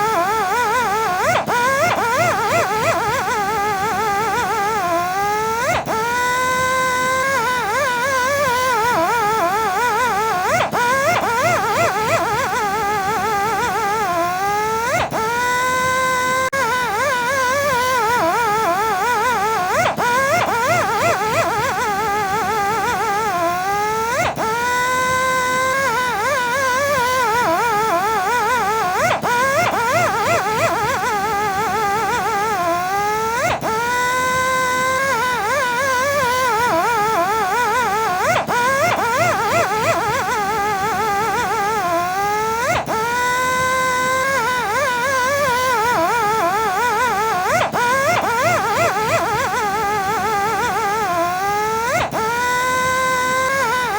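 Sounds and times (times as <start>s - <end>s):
polishing machine motor whine: 0.0s - 53.9s.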